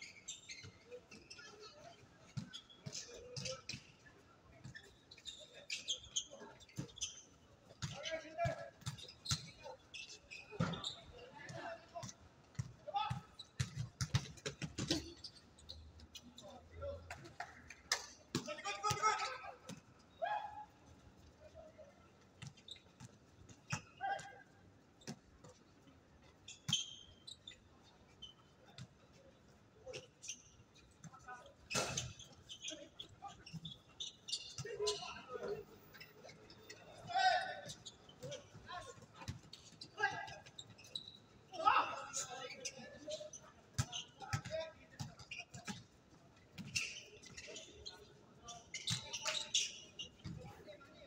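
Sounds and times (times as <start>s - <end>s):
shoes squeaking on court: 0.0s - 20.2s, 20.9s - 51.0s.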